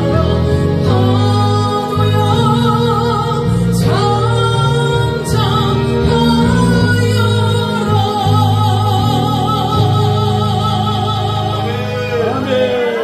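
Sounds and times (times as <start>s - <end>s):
musical accompaniment with bass: 0.0s - 13.0s
woman singing into microphone: 0.0s - 13.0s.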